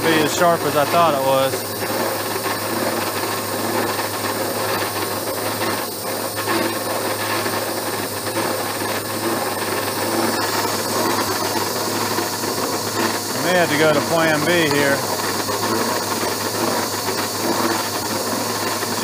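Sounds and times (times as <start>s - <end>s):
milling machine cutter chattering: 0.0s - 19.0s
milling machine running: 0.0s - 19.0s.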